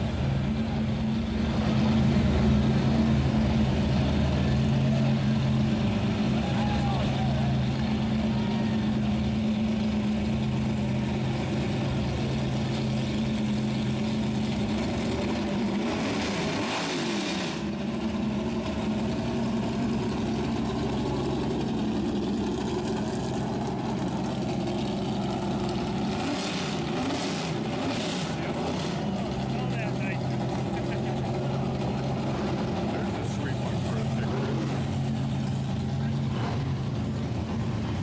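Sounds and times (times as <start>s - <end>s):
loud lumpy engine rumble: 0.0s - 38.0s.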